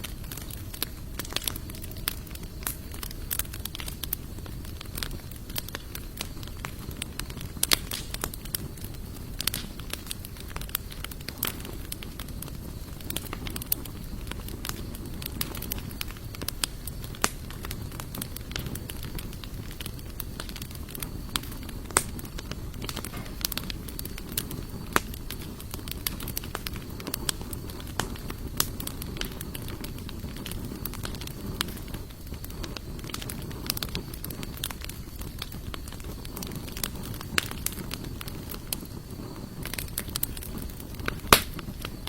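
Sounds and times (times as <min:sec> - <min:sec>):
campfire flames rumbling: 0:00.0 - 0:42.0
fire crackling and popping: 0:00.0 - 0:42.0.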